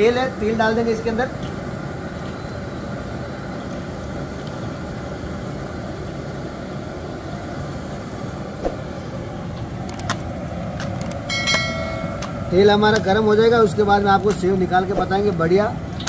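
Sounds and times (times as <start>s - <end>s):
gas burner low roar: 0.0s - 16.0s.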